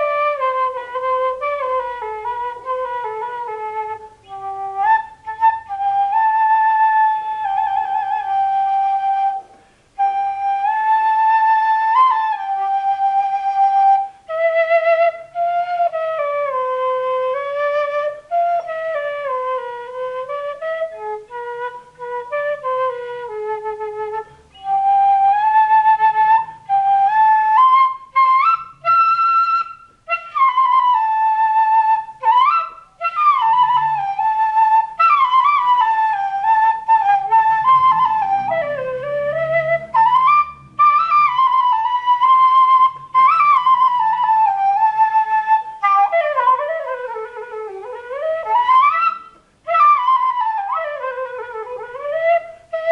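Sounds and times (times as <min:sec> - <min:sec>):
end-blown flute playing slowly: 0:00.0 - 0:52.9.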